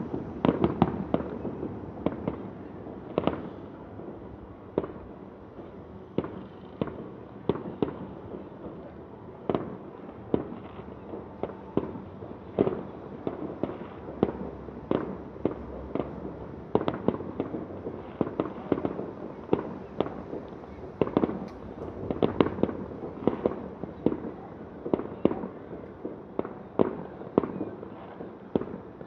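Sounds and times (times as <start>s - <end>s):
distant fireworks bursting: 0.0s - 29.0s.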